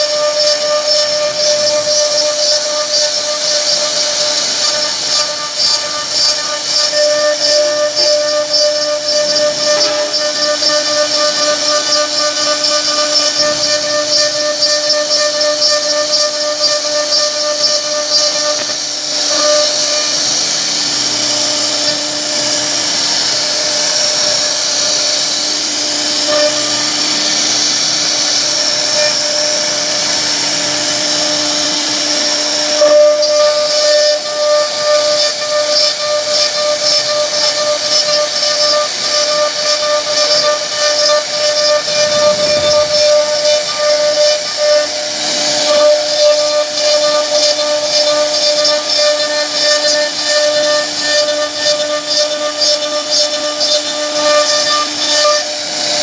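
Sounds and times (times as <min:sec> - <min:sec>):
hiss of wood cutting: 0:00.0 - 0:56.0
router spindle whining: 0:00.0 - 0:56.0.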